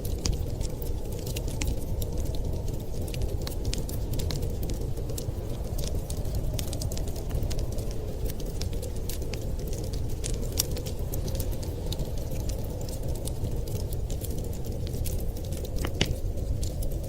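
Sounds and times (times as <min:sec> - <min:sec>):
fire crackling and popping: 0:00.0 - 0:17.0
low rumble of wind: 0:00.0 - 0:17.0.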